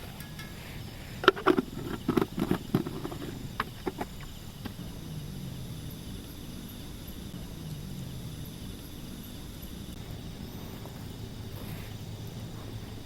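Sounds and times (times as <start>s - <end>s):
high insect trill: 0.0s - 13.0s
low steady hum: 0.0s - 13.0s.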